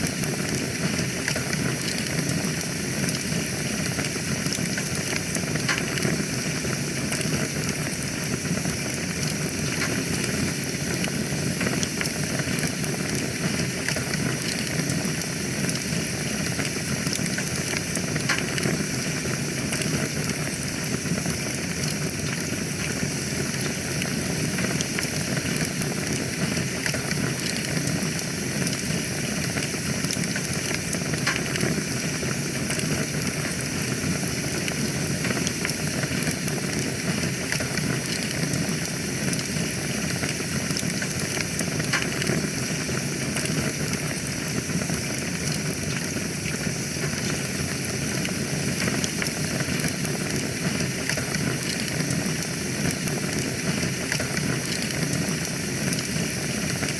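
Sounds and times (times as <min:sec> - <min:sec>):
fire burning in fireplace: 0:00.0 - 0:56.9.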